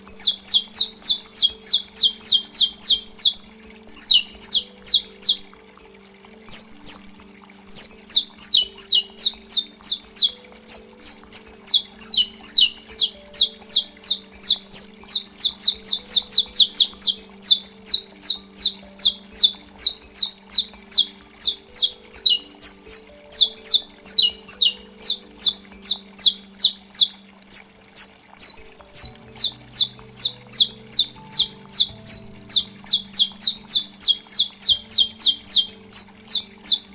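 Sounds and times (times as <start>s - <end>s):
finch singing sharp notes: 0.0s - 5.5s, 7.7s - 36.9s.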